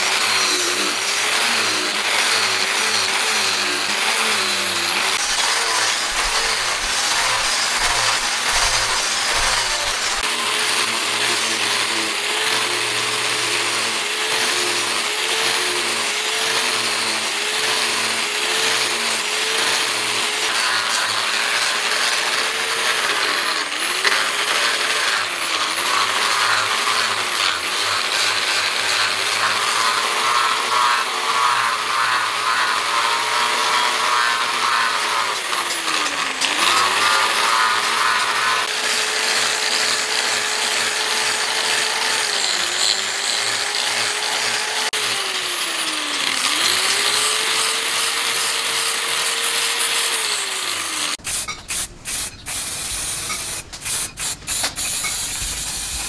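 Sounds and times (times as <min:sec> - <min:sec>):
angle grinder grinding steel: 0:00.0 - 0:56.0.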